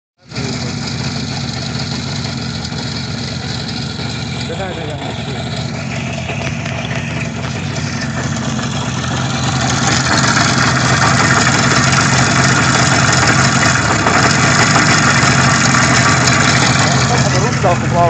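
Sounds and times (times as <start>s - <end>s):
motorcycle engine running: 0.2s - 18.0s.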